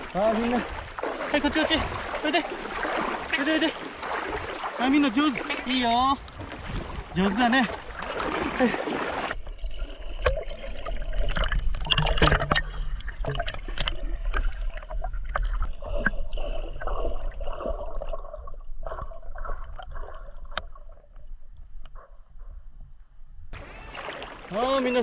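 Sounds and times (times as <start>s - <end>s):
small water splashes: 0.0s - 21.2s, 23.6s - 25.0s
water sloshing and gurgling: 0.0s - 22.6s, 23.5s - 25.0s.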